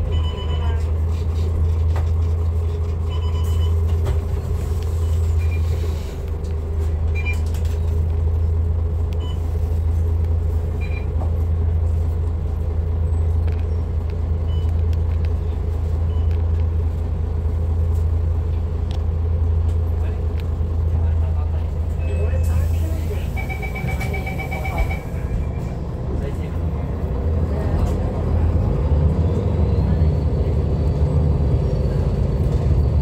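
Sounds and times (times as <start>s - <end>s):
bus engine and road hum: 0.0s - 33.0s.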